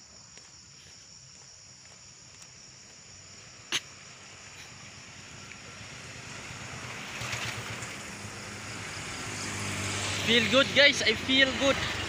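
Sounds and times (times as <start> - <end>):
vehicle approaching on road: 1.8 - 12.0.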